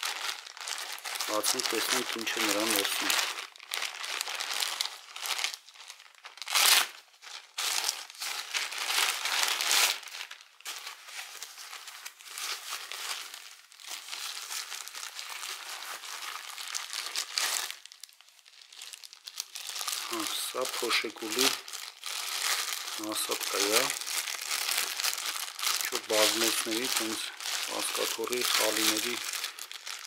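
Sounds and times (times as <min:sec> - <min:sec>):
plastic mailer bag crinkling: 0:00.0 - 0:30.0.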